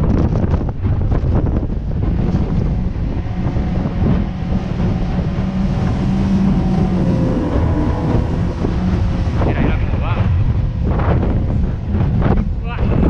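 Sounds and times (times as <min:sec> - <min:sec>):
outboard motor drone: 0:00.0 - 0:13.0
water rushing past hull: 0:00.0 - 0:13.0
wind buffeting microphone: 0:00.0 - 0:13.0.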